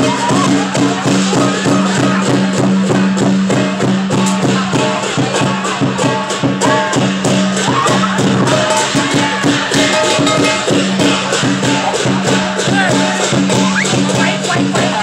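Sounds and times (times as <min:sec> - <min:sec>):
cymbals clashing: 0:00.0 - 0:15.0
drum beating: 0:00.0 - 0:15.0.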